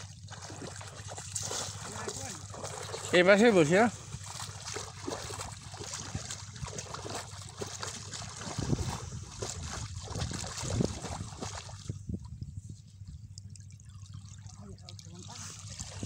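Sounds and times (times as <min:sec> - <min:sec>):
pond water splashing: 0:00.0 - 0:12.4, 0:13.2 - 0:16.0.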